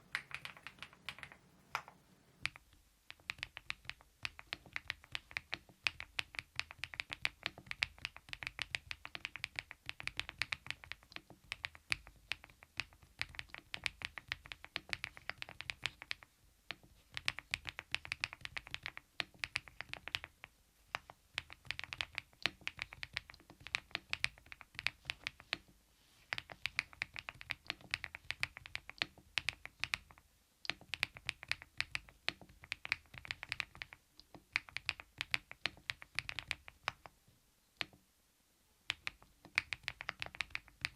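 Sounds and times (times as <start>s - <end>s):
fast typing on mechanical keyboard: 0.1s - 1.4s, 3.2s - 16.2s, 17.1s - 20.4s, 21.4s - 25.6s, 26.3s - 37.0s, 38.9s - 40.9s.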